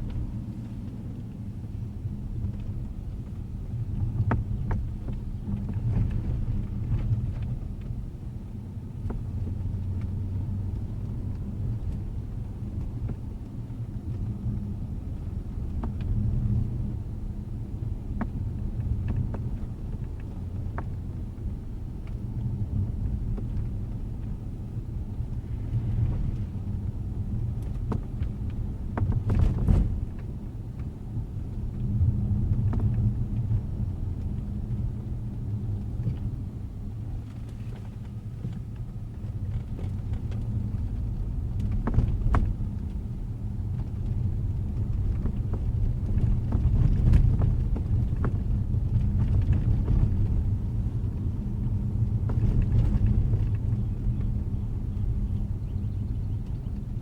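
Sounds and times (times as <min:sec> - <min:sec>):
road rumble inside car: 0:00.0 - 0:57.0.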